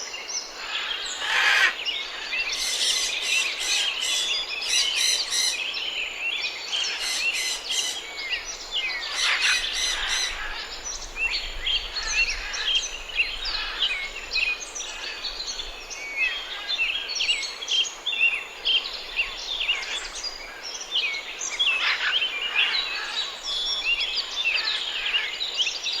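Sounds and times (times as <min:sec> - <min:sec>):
birds chirping and singing: 0:00.3 - 0:26.0.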